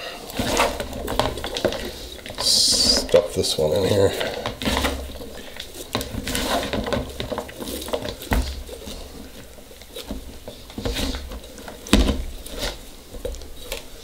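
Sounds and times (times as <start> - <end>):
vegetables scraping against glass: 0.3 - 13.8.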